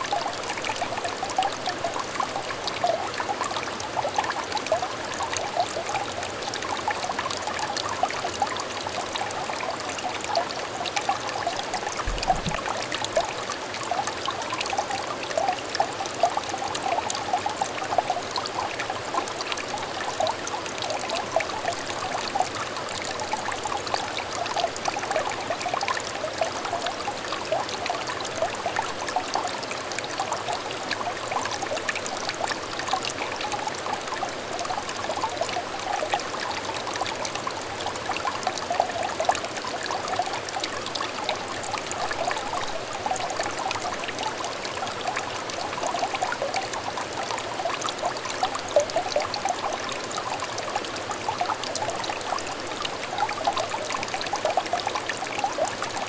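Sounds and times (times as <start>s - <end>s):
stream trickling and burbling: 0.0s - 56.0s.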